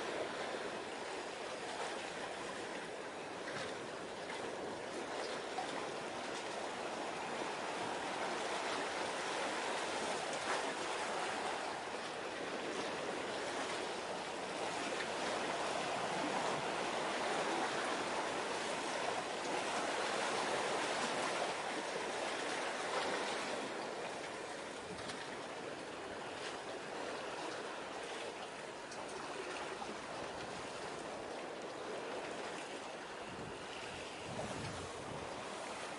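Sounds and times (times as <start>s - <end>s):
sea water rushing: 0.0s - 35.9s.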